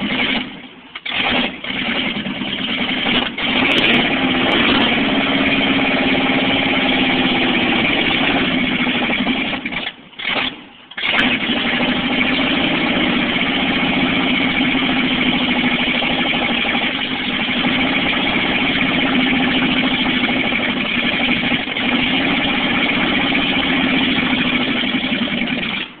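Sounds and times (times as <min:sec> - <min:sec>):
pickup truck engine running: 0:00.0 - 0:26.0.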